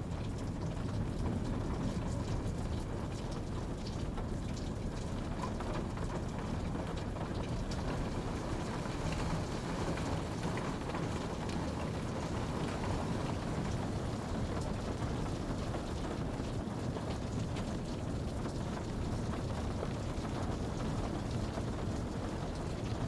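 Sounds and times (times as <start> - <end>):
steady rain falling: 0.0 - 23.0
raindrop ticks: 0.2 - 23.0.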